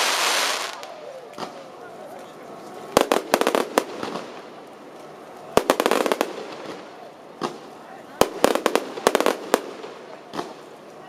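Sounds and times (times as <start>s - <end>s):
fireworks bangs: 0.0s - 2.0s, 2.8s - 4.9s, 5.5s - 10.8s.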